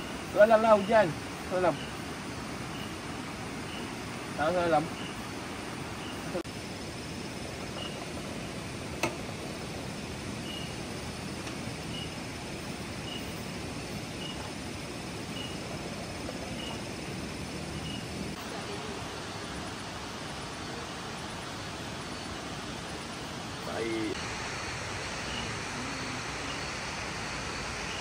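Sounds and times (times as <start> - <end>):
faint thin high whine: 0.0 - 28.0
outdoor hiss: 0.0 - 28.0.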